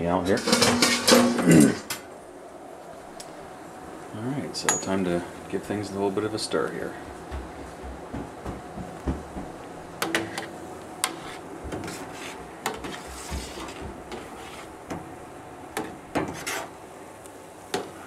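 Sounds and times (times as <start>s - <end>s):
hiss of rolling boil: 0.0s - 18.0s.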